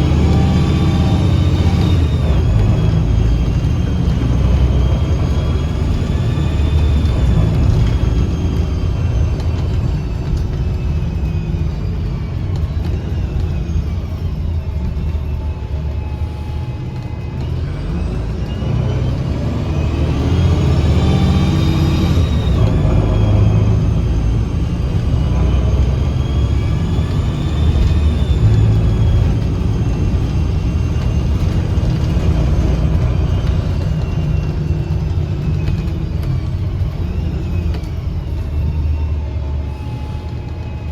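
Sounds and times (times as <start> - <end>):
bus engine rumble: 0.0 - 40.9
high whining tones: 0.0 - 40.9.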